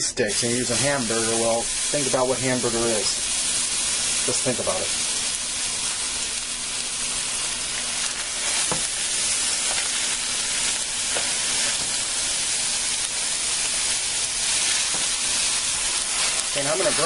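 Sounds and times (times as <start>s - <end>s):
meat sizzling in frying pan: 0.3s - 17.0s.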